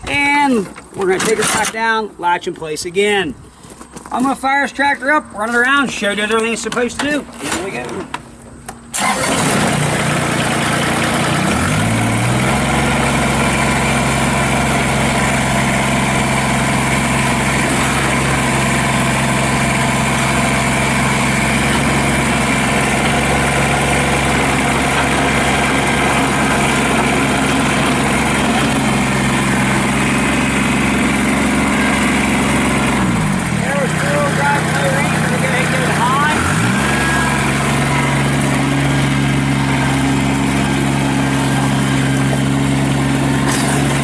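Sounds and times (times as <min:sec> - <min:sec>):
diesel tractor engine starting: 0:05.6 - 0:44.0.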